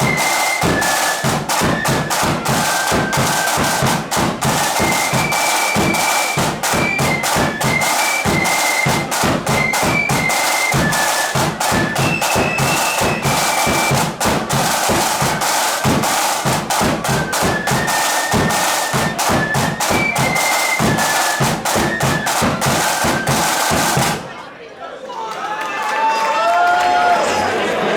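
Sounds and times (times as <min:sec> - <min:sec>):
flutes playing march melody: 0:00.0 - 0:24.2
rapid drumming: 0:00.0 - 0:24.3.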